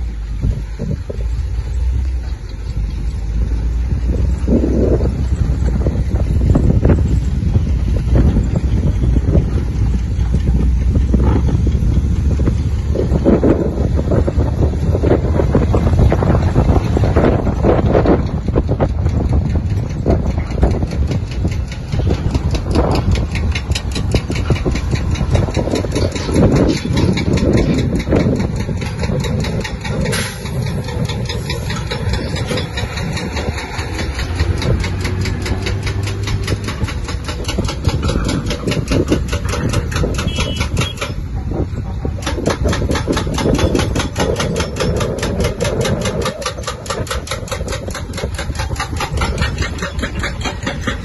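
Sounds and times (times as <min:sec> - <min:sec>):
diesel construction machinery running: 0:00.0 - 0:51.0
rapid even knocking: 0:02.6 - 0:51.0.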